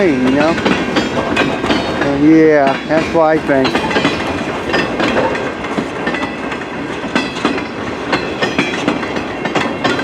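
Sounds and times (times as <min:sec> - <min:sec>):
train rumble: 0:00.0 - 0:10.0
train wheels clanking over rail joints: 0:00.0 - 0:10.0.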